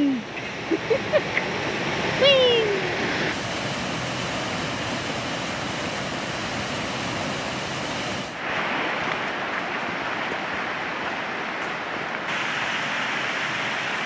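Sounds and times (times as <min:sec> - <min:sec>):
water rushing through gorge: 0:01.5 - 0:14.0.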